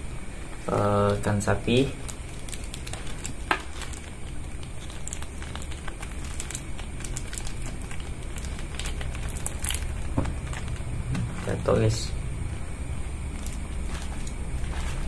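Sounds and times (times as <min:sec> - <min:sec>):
plastic bag crinkling: 0:00.5 - 0:12.1, 0:13.2 - 0:15.0.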